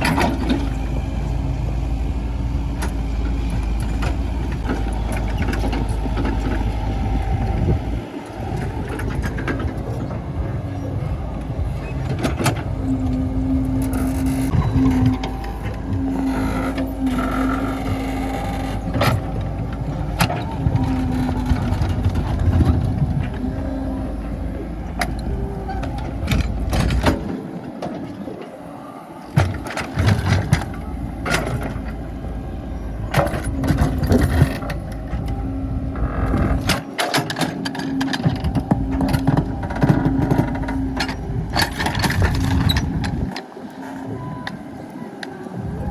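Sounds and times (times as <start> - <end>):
excavator running hum: 0.0 - 45.9.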